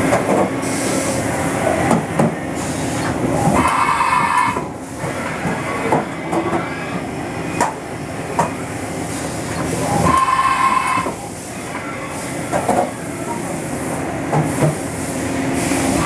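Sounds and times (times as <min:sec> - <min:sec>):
machinery hum with hiss: 0:00.0 - 0:16.0.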